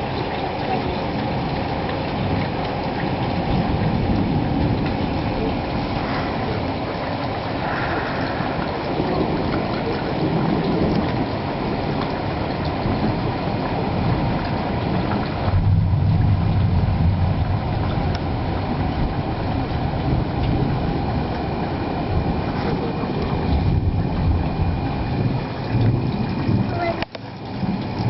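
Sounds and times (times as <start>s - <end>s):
thunder rumbling: 0.0s - 28.0s.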